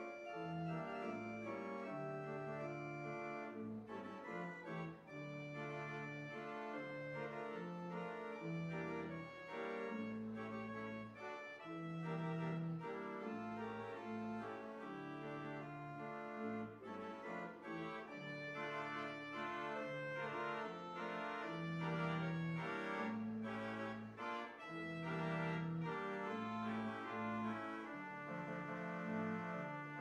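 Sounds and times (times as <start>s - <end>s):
organ playing chords: 0.0s - 30.0s.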